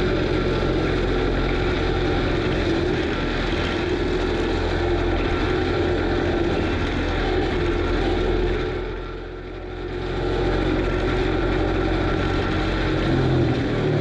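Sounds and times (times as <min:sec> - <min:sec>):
loader engine and mulcher drone: 0:00.0 - 0:14.0.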